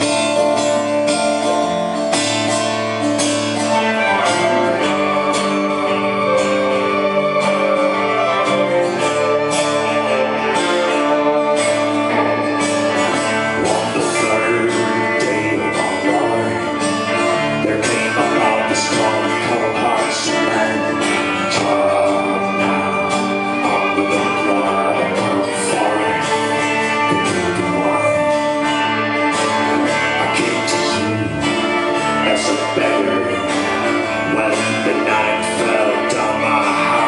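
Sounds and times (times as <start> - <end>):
strummed guitars: 0.0 - 37.0.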